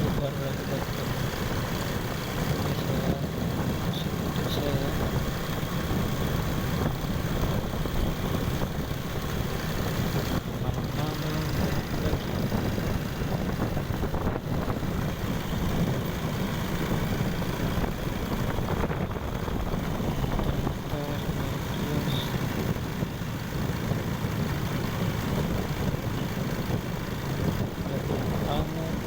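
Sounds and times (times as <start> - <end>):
vehicle engine and road noise: 0.0 - 29.0
wind on microphone: 0.0 - 29.0.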